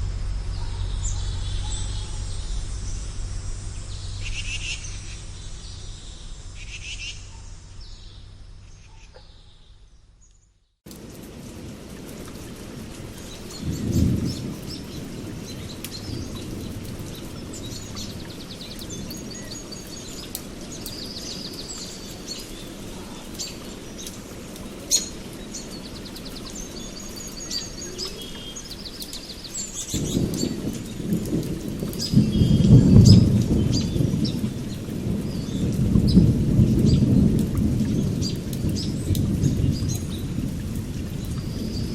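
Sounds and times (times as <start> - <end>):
steady rain: 0.0 - 8.9, 10.9 - 41.9
thunder rumbling: 0.0 - 8.9, 10.9 - 41.9
birds chirping: 0.0 - 11.3, 12.2 - 41.9.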